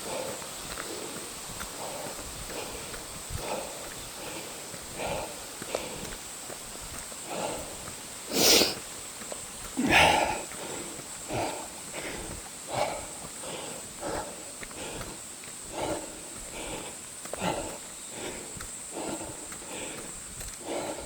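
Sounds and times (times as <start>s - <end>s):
runner breathing heavily: 0.0s - 21.0s.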